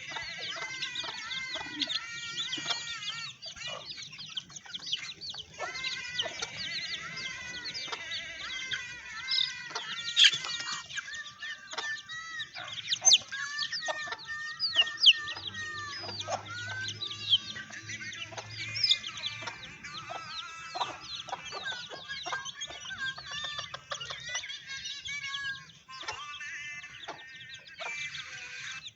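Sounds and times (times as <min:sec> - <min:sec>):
chickens clucking: 0:00.0 - 0:28.9
chicks peeping: 0:00.0 - 0:28.9.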